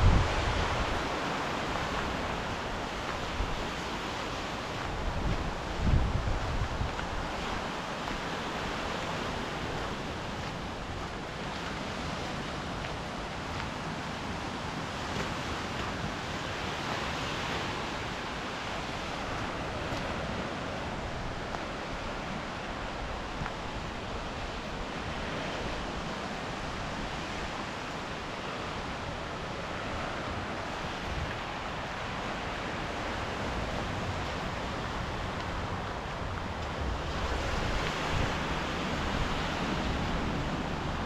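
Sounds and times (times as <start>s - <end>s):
sea waves washing onto shore: 0.0s - 41.0s
wind: 0.0s - 41.0s.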